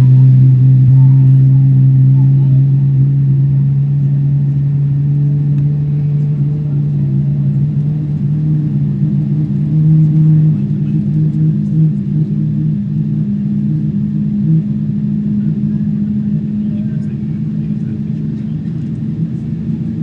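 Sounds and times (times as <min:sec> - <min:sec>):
aircraft cabin drone: 0:00.0 - 0:20.0.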